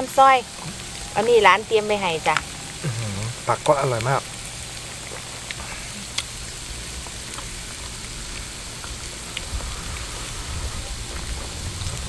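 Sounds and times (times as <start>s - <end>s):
food sizzling on a grill pan: 0.0s - 12.0s
low rumble: 0.0s - 12.0s.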